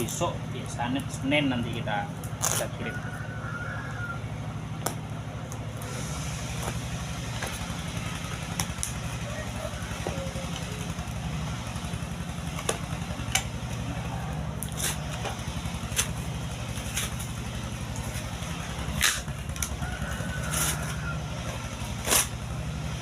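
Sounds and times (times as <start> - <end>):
small engine humming: 0.0 - 23.0.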